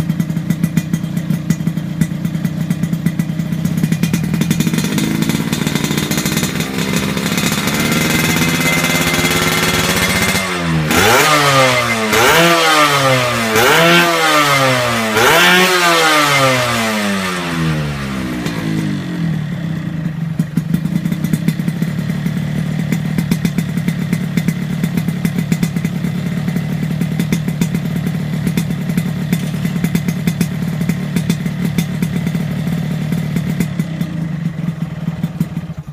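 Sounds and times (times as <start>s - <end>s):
exhaust popping: 0.0s - 35.9s
two-stroke motorcycle engine revving: 0.0s - 35.9s.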